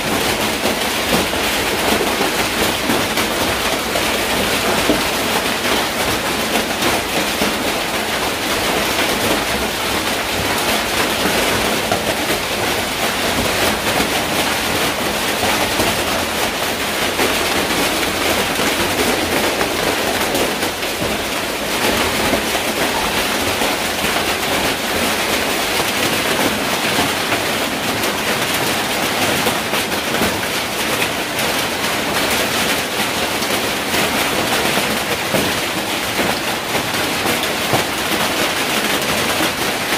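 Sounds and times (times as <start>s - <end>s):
hail and rain on metal roofs: 0.0s - 39.9s.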